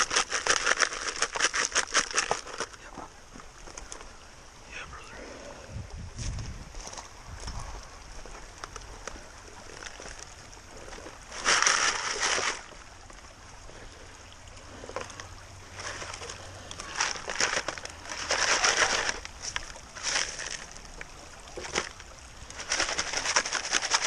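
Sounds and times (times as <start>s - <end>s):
gravel sloshing in a sieve: 0.0s - 2.9s, 6.2s - 24.0s
creek water washing: 0.0s - 24.0s.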